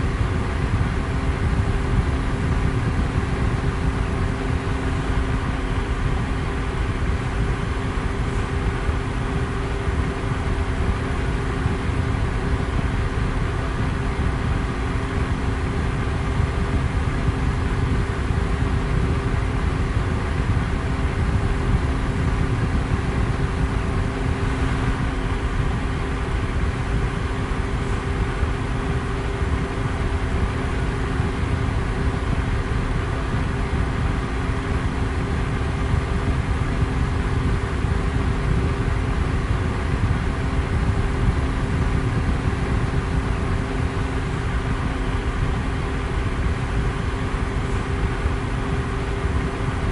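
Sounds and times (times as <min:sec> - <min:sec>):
electric fan running: 0:00.0 - 0:49.9.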